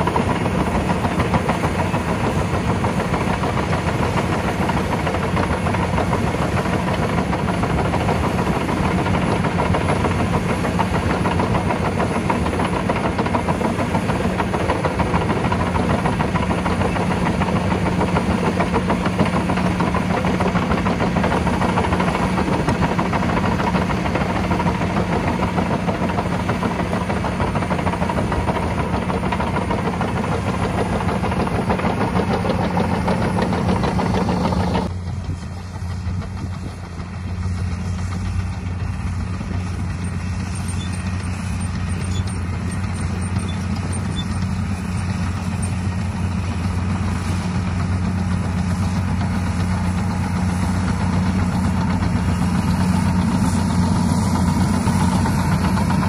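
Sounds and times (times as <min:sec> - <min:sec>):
bulldozer engine humming: 0:00.0 - 0:56.0.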